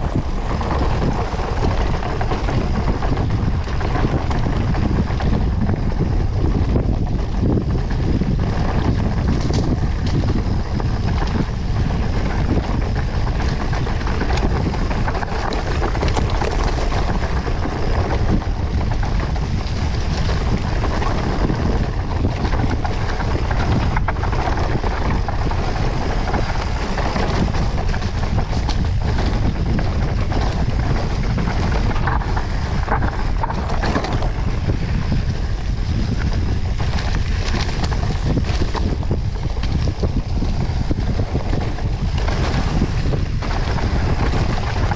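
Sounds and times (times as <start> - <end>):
bike rattling: 0.0 - 44.9
tyres rumbling on dirt: 0.0 - 44.9
wind buffeting microphone: 0.0 - 44.9.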